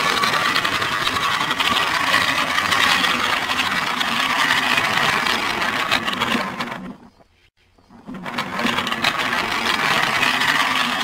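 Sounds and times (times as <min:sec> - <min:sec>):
toy train rattling whir: 0:00.0 - 0:11.0.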